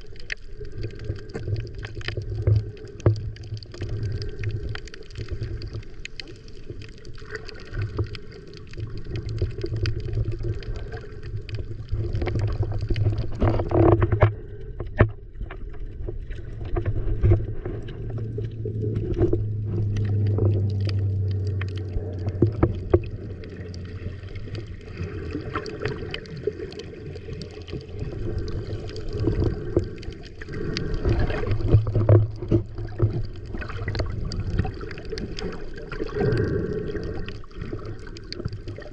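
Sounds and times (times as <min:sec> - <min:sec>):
muffled water sloshing and gurgling: 0:00.0 - 0:38.9.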